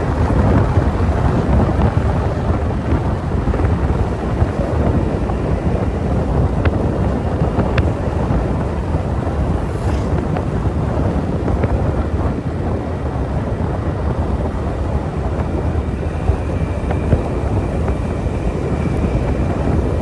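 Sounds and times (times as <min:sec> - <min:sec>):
road noise: 0:00.0 - 0:20.0
wind rumble on microphone: 0:00.0 - 0:20.0.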